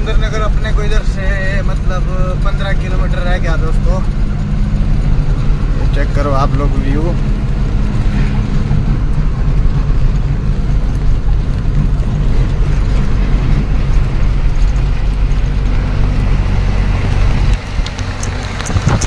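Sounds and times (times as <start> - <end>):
road noise: 0.0 - 19.0
truck diesel engine running: 0.0 - 19.0.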